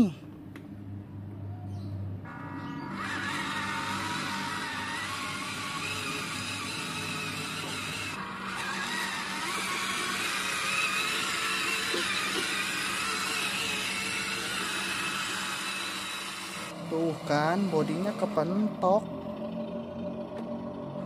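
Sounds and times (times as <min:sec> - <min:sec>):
toy truck motor whining: 0:02.9 - 0:20.5.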